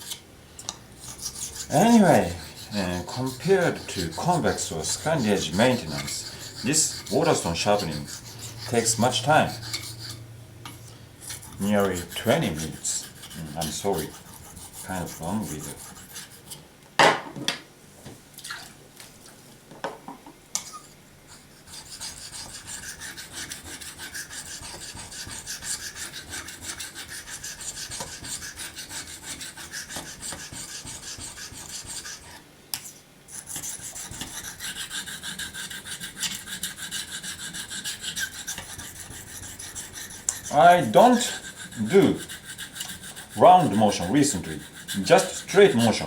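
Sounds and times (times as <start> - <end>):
knife scraping on whetstone: 0.0 - 0.2, 1.0 - 16.7, 20.6 - 46.0.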